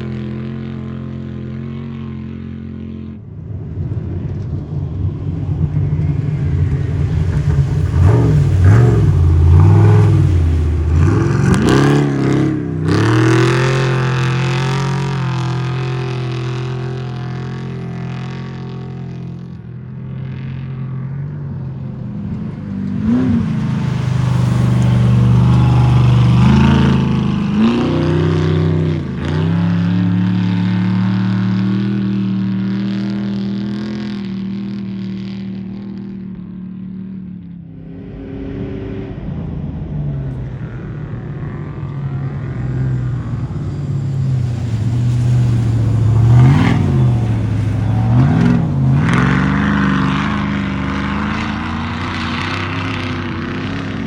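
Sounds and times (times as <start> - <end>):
race vehicle engines revving: 0.0 - 54.0.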